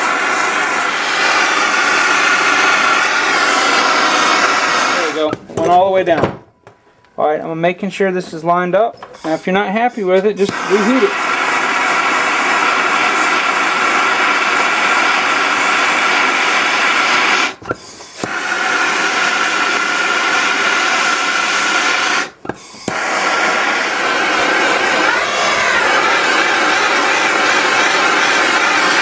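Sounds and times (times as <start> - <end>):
heat gun blowing: 0.0 - 7.2, 9.0 - 29.0.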